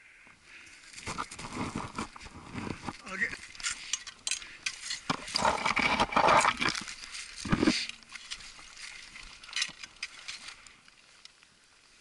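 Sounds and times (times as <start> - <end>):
snow crunching and scraping: 0.8 - 12.0.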